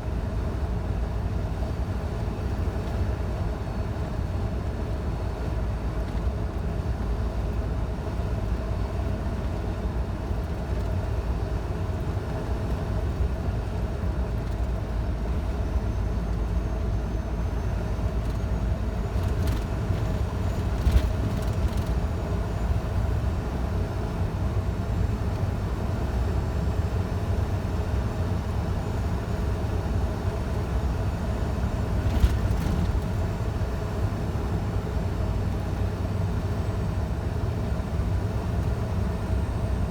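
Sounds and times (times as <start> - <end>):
truck engine and tyre rumble: 0.0 - 39.9.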